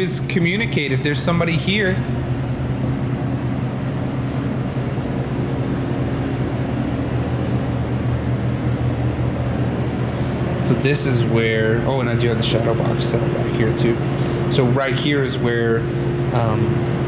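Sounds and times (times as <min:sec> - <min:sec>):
air conditioner humming and hissing: 0:00.0 - 0:17.0.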